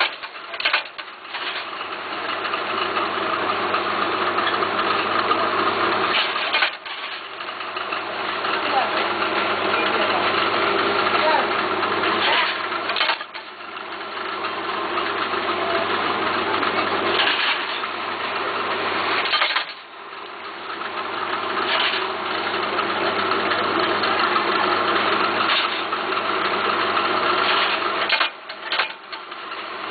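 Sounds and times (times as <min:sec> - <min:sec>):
machine running steadily: 0:00.0 - 0:29.9.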